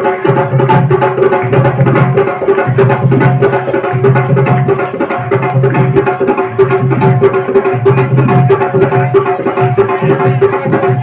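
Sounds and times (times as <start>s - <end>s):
drums beating quick rhythm: 0.0s - 11.0s.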